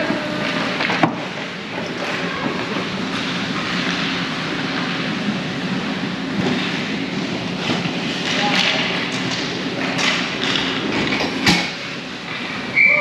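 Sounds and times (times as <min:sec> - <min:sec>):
ice hockey rink ambience: 0:00.0 - 0:13.0.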